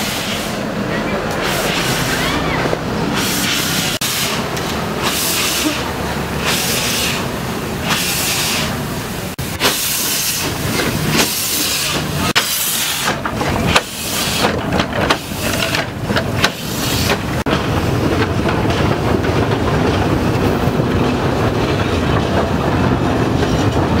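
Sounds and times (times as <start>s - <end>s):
steam locomotive hissing: 0.0s - 24.0s
wagons rumbling over rails: 0.0s - 24.0s.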